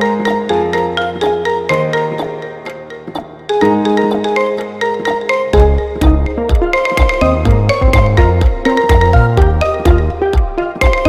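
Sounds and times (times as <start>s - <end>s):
phone ringtone melody: 0.0s - 11.0s.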